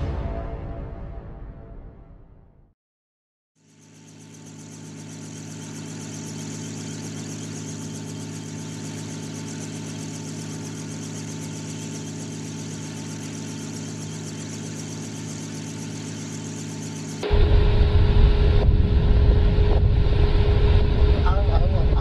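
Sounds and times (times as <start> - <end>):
aircraft engine drone: 3.6 - 22.0.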